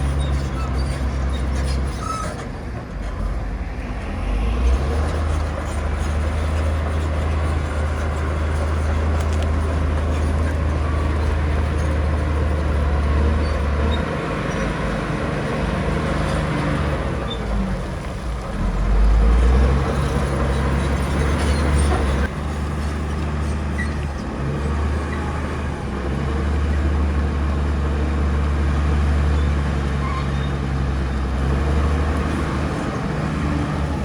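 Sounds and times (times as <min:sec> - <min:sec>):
heavy diesel machinery humming: 0:00.0 - 0:34.0.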